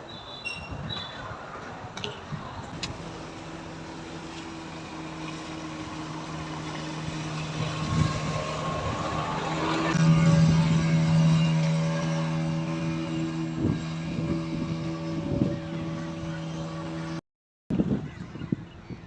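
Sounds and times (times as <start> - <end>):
road traffic: 0.0 - 17.2.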